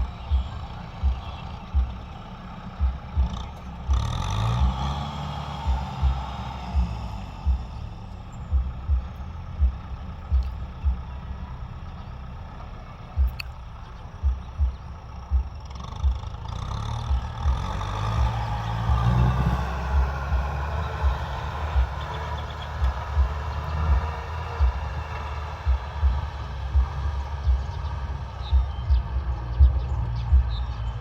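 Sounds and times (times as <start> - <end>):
low thumps: 0.0 - 16.4, 17.1 - 31.0
tractor diesel engine running: 0.0 - 31.0.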